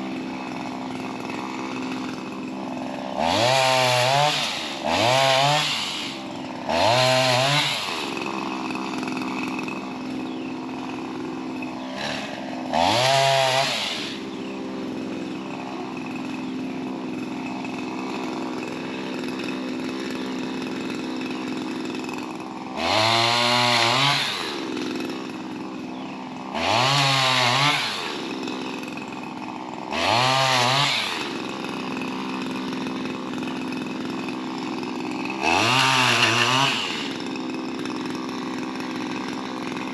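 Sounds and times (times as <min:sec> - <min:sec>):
saw cutting tree limbs: 0:00.0 - 0:39.9
small two-stroke engine revving: 0:00.0 - 0:39.9.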